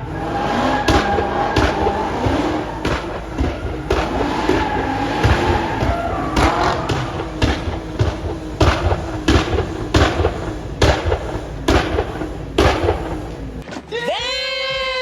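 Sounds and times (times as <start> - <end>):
sharp bangs: 0.0 - 13.6.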